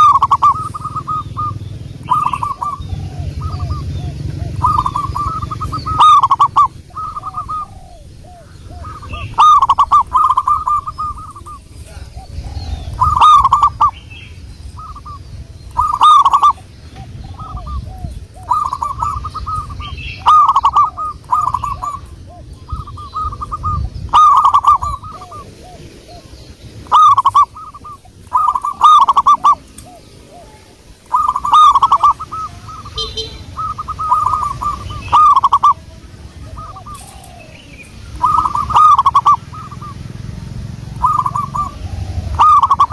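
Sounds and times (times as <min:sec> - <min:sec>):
dove staccato cooing: 0:00.0 - 0:42.9
faint low cooing notes: 0:00.0 - 0:42.9.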